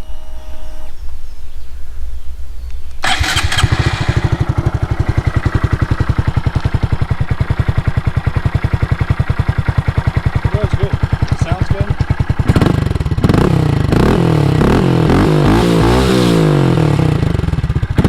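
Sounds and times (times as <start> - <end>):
motorcycle engine starting and idling: 3.0 - 18.0.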